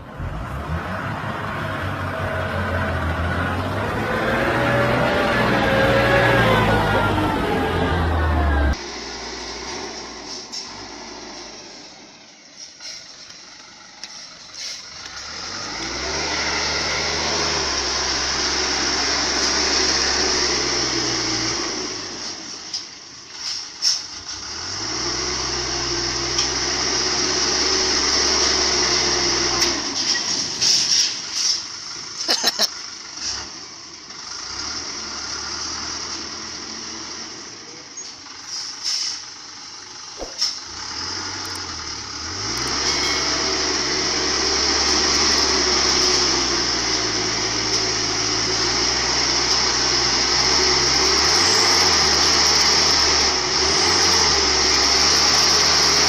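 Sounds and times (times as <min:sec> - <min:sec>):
truck engine straining under load: 0:00.0 - 0:56.0.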